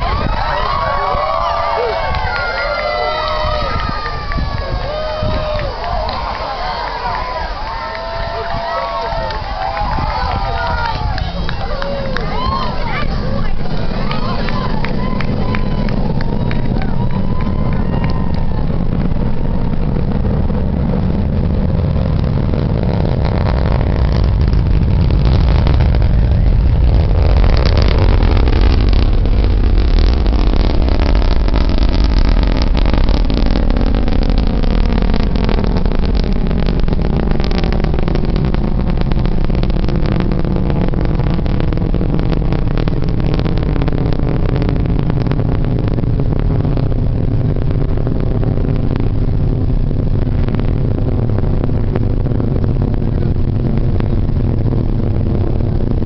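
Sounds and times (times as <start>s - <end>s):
dense crackling: 0.0s - 56.0s
rocket engines roaring: 0.0s - 56.0s.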